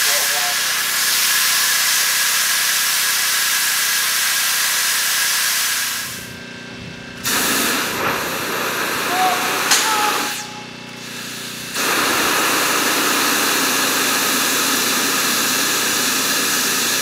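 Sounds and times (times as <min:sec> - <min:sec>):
rough rush of gas and spray: 0:00.0 - 0:06.4, 0:07.1 - 0:17.0
loud hiss of pressurised gas: 0:00.1 - 0:06.3, 0:07.2 - 0:17.0.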